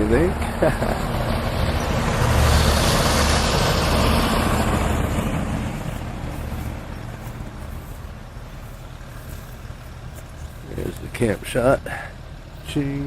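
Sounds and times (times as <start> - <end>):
motor vehicle passing by: 0.0 - 12.8.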